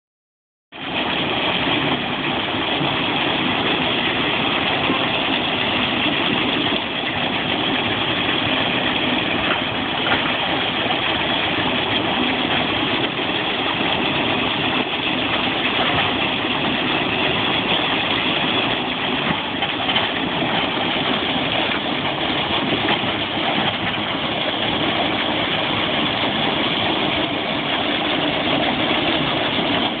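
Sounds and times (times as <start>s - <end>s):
electric pump churning slurry: 0.8s - 30.0s.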